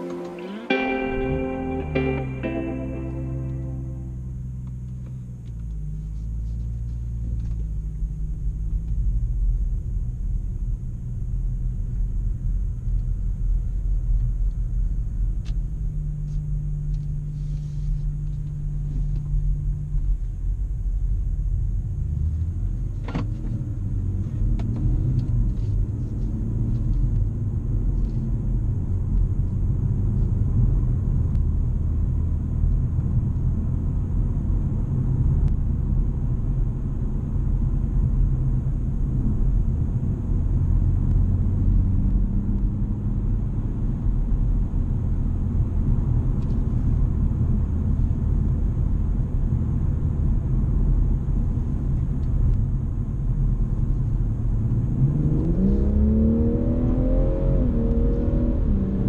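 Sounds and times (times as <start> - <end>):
car engine from inside cabin: 0.0 - 59.0.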